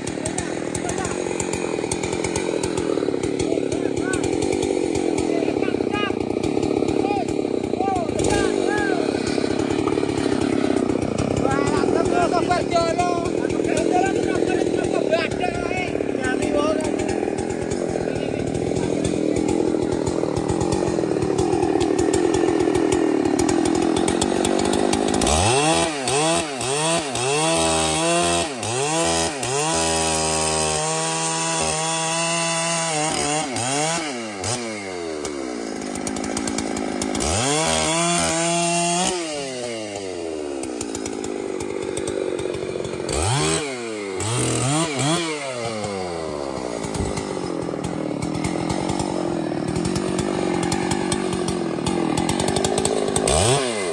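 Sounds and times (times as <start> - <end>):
chainsaw running and revving: 0.0 - 53.9.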